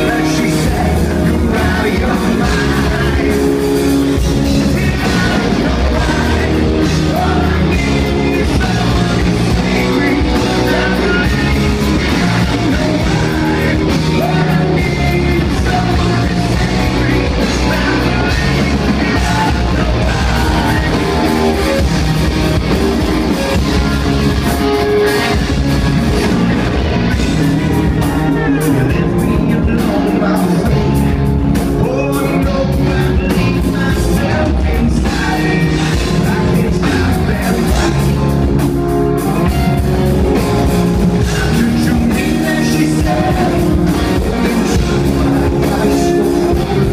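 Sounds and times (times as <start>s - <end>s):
bass guitar: 0.0s - 46.9s
drums: 0.0s - 46.9s
electric guitars: 0.0s - 46.9s
man singing: 0.0s - 46.9s.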